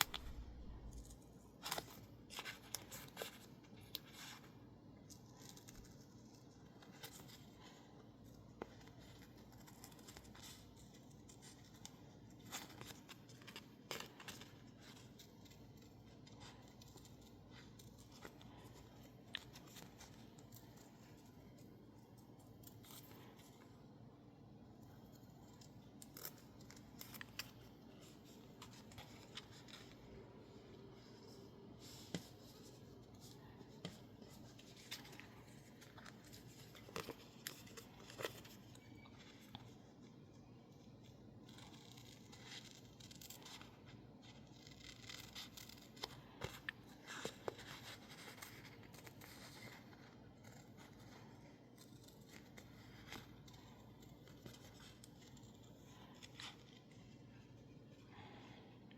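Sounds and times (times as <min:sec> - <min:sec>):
scissors snipping paper: 0:00.0 - 0:23.8, 0:24.8 - 0:39.7, 0:40.7 - 0:57.2.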